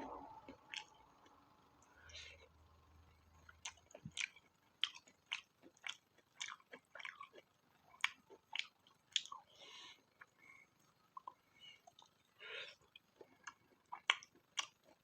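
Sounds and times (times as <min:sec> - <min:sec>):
person chewing food: 0:00.0 - 0:01.4, 0:03.4 - 0:15.0.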